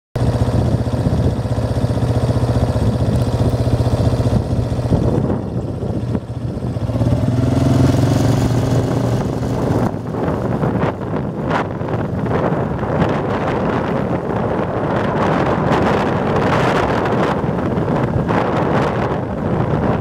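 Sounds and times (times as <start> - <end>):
tyres on gravel road: 0.2 - 20.0
vehicle engine running: 0.2 - 20.0.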